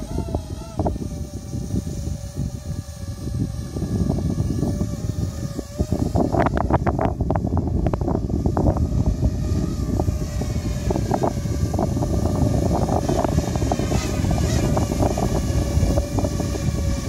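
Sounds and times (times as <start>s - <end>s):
quadcopter motors humming: 0.0s - 17.0s
wind buffeting microphone: 0.0s - 17.0s.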